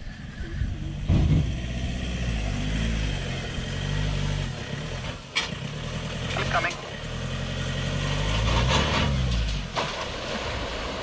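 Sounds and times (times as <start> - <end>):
pickup engine under load: 0.0 - 11.0.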